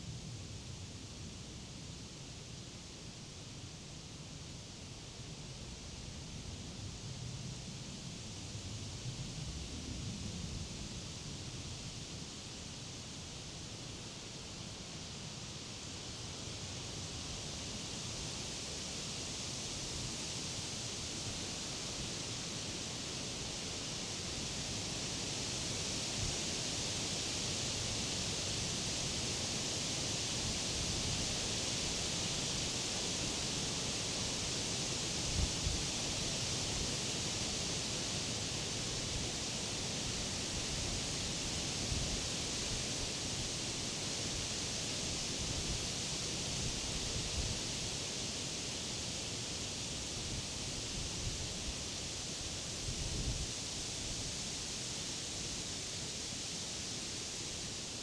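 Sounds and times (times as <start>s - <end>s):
wind rustling leaves: 6.3s - 58.0s.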